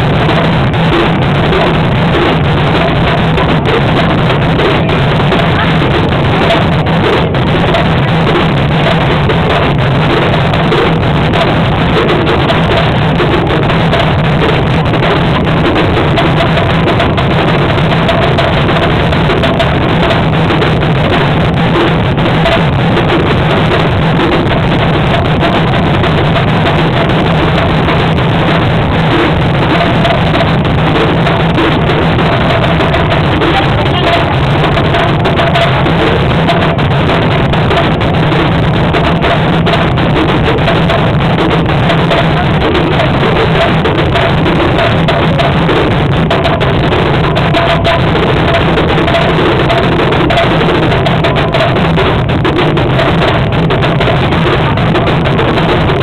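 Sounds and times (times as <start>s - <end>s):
bass drum and snare beat: 0.0s - 56.0s
held band notes: 0.0s - 56.0s.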